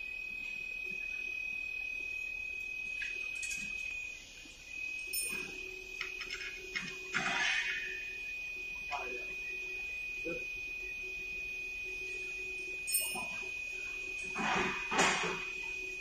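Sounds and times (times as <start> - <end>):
steady high whine: 0.0 - 16.0.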